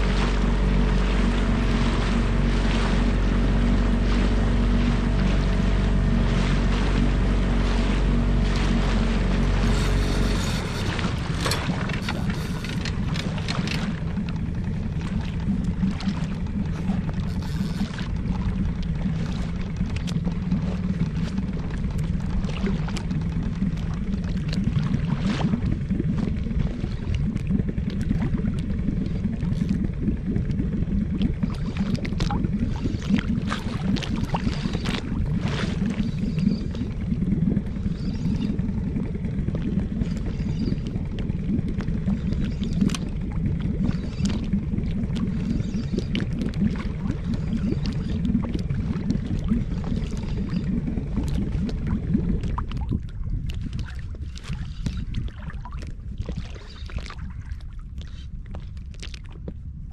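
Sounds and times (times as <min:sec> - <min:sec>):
steady low rumble: 0:00.0 - 0:59.9
water slapping against boat hull: 0:00.0 - 0:59.9.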